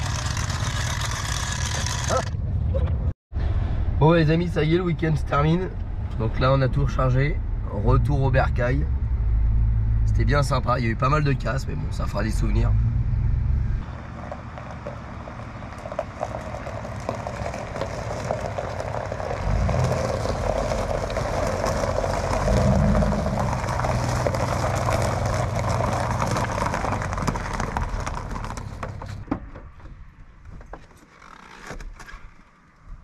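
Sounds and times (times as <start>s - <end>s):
vehicle engine hum: 0.0s - 30.8s
road noise: 0.0s - 33.0s.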